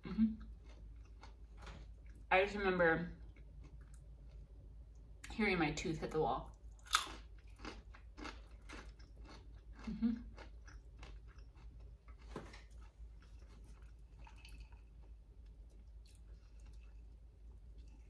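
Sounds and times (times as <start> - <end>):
person chewing crunchy food: 0.0 - 2.3, 3.2 - 5.1, 6.5 - 18.0.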